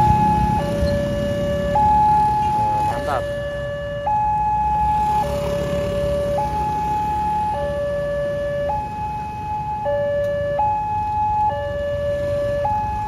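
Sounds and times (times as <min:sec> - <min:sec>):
low traffic engine noise: 0:00.0 - 0:13.0
two-tone warning siren: 0:00.0 - 0:13.0.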